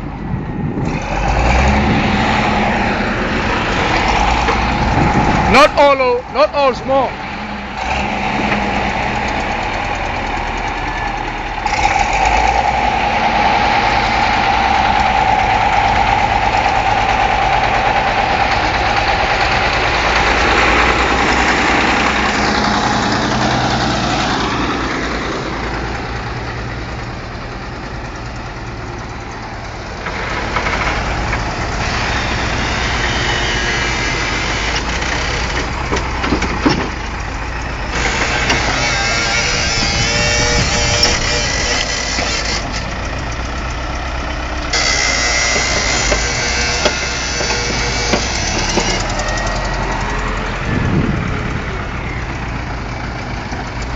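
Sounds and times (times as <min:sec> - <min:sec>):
construction machinery engine running: 0:00.0 - 0:53.9.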